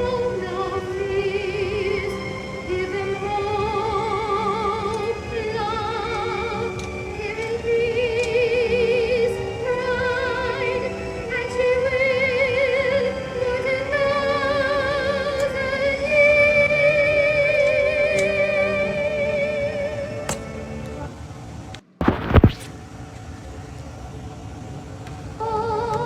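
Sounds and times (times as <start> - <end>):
high voice singing with vibrato: 0.0 - 20.3, 25.4 - 26.0.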